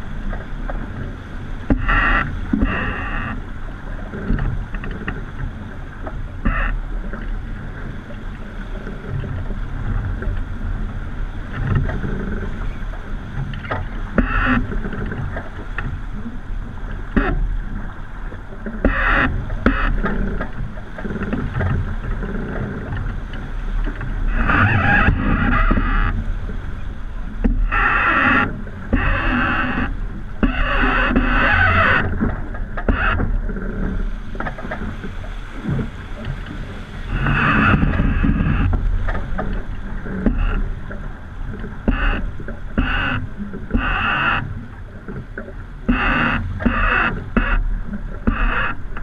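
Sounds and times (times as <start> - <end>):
water rushing past hull: 0.0 - 49.0
wind rumbling on microphone: 0.0 - 49.0.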